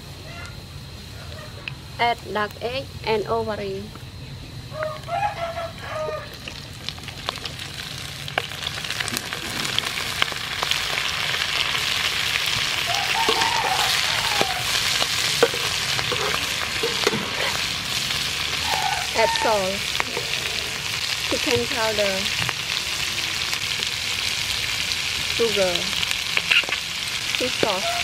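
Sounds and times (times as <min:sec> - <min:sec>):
eggs sizzling in hot oil: 0:04.8 - 0:28.0.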